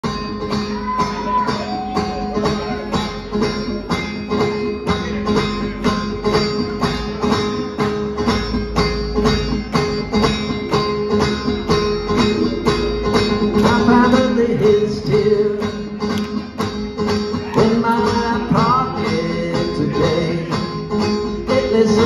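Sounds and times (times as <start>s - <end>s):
banjo: 0.0s - 22.0s
steel guitar: 0.0s - 22.0s.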